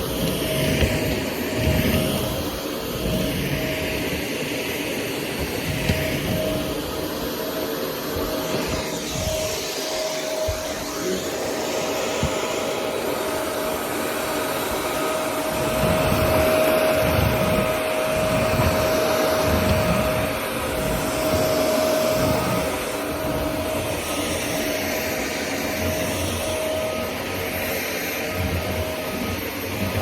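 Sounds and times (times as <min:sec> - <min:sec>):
vacuum cleaner motor whine: 0:00.0 - 0:30.0.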